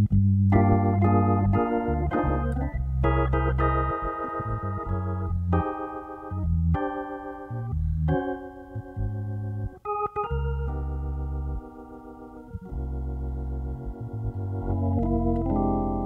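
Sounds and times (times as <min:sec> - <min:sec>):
hammond organ playing chords: 0:00.0 - 0:16.0.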